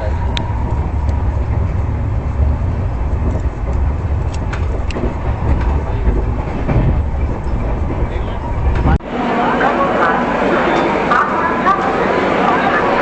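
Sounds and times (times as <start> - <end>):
train rumble inside coach: 0.0 - 13.0.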